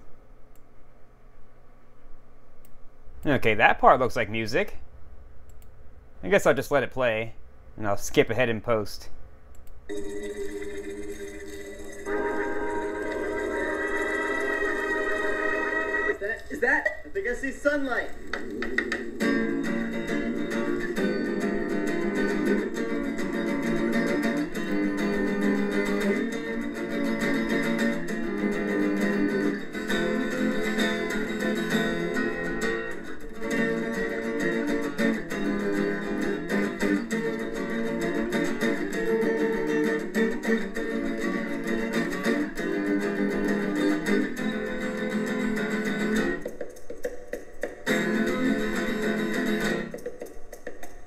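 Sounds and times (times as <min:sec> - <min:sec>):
muffled multitrack music playback: 0:09.9 - 0:51.0.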